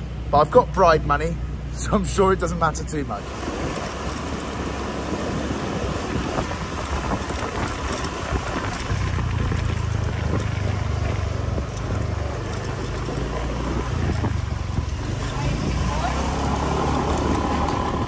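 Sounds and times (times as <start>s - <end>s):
wind and road noise: 0.0s - 18.0s
motor scooter engine running: 3.2s - 18.0s.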